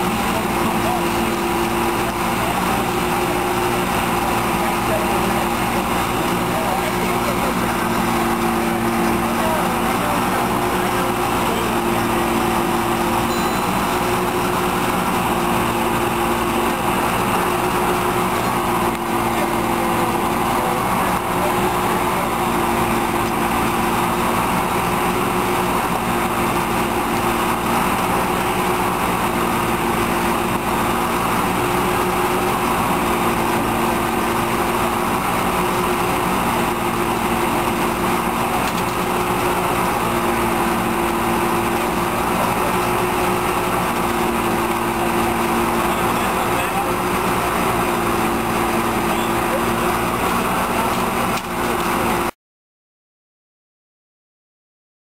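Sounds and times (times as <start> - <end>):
small petrol engine running: 0.0 - 52.4.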